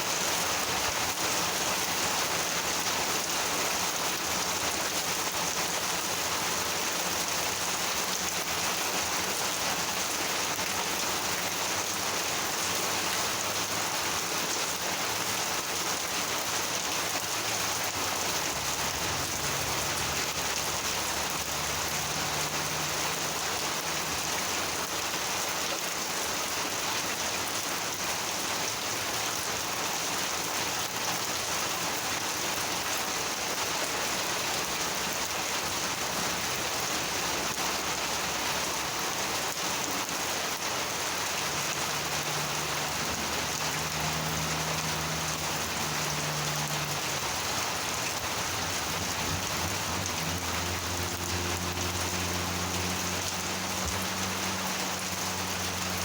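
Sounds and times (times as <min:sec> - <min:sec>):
heavy rain splattering: 0:00.0 - 0:56.0.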